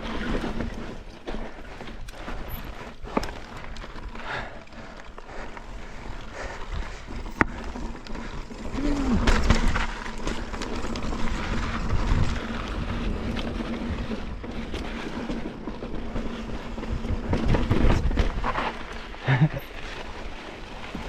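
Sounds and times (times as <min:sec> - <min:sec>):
bike rattling: 0:00.0 - 0:21.0
bike tyres on rock: 0:00.0 - 0:21.0.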